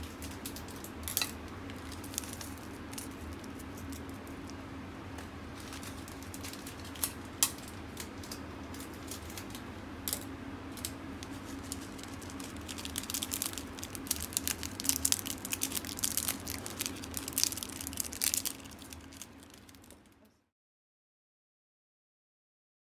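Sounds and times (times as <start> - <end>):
crackly clicking and rustling: 0.0 - 20.3
steady low hum: 0.0 - 20.5.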